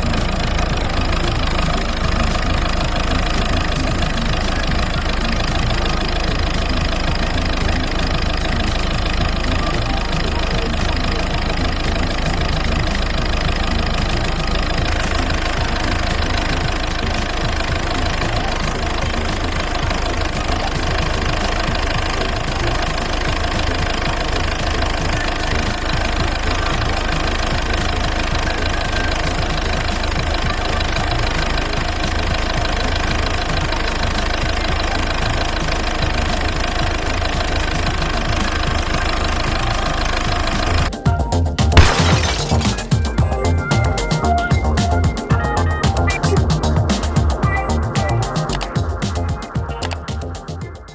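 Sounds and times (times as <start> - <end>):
diesel engine idling: 0.0 - 44.4.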